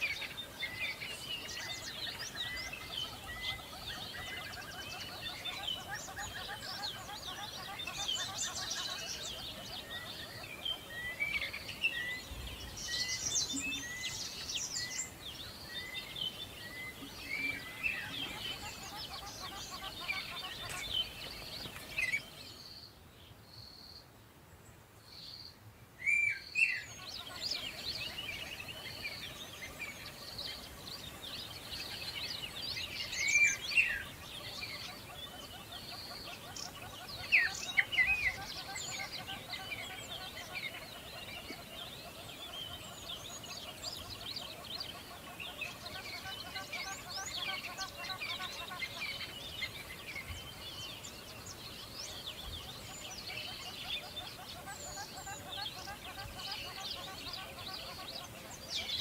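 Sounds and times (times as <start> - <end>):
birds chirping and singing: 0.0 - 23.9, 25.1 - 59.0.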